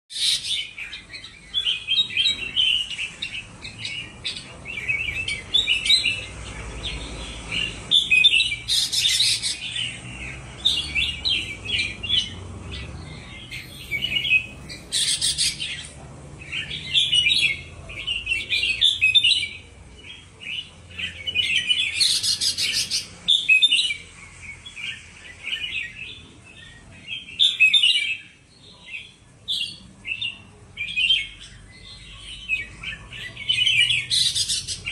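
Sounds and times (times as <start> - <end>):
birds singing chirpy phrases: 0.1 - 34.9.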